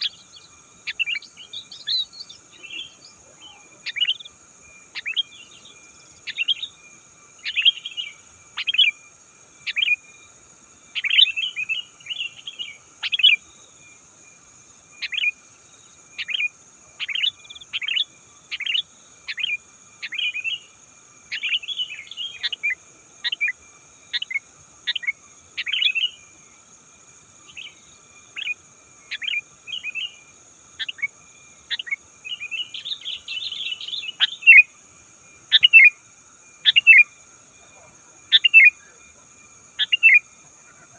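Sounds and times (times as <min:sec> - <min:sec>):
faint high hiss: 0:00.0 - 0:40.9.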